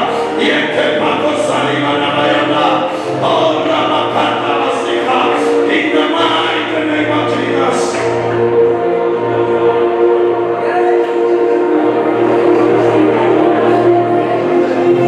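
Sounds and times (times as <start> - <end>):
congregation singing a worship song: 0.0 - 15.0.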